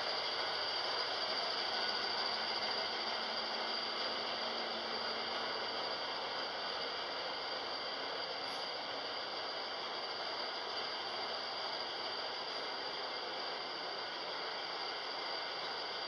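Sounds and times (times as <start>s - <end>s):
ferry engine and ventilation drone: 0.0s - 16.0s.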